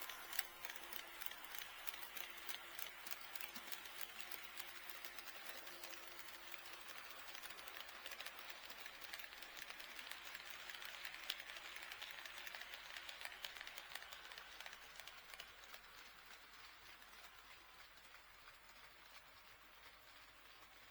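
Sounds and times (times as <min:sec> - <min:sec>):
model train wheels clicking: 0:00.0 - 0:20.9.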